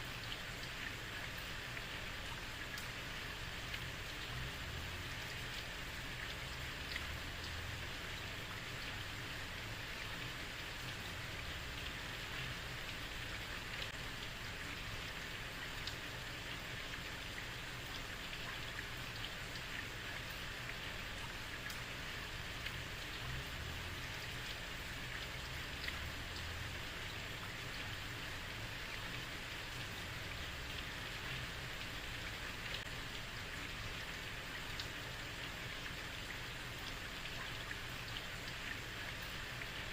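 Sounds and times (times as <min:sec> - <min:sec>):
heavy rain on a street: 0:00.0 - 0:39.9
raindrops ticking: 0:00.0 - 0:39.9.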